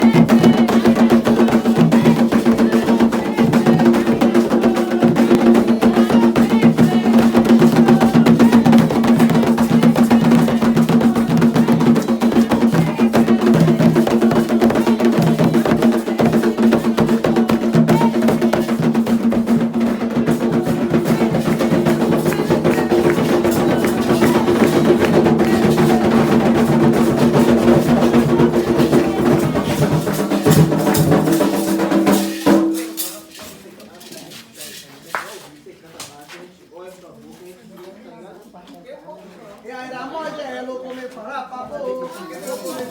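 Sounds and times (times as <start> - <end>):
hand drums and percussion: 0.0 - 35.2, 42.0 - 42.9.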